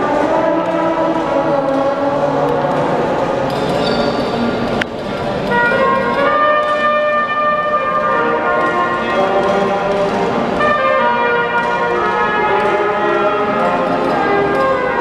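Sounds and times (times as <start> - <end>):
brass and clarinet ensemble playing: 0.0 - 3.6, 5.4 - 15.0.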